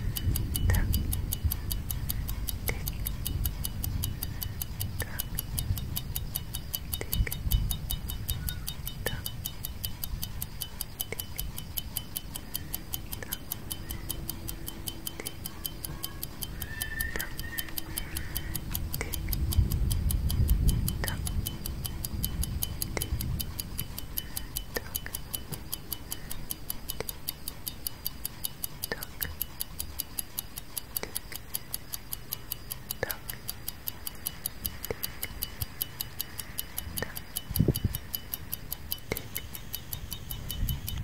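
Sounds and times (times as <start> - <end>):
clock ticking: 0.0 - 41.0
low rumbling background: 0.0 - 41.0.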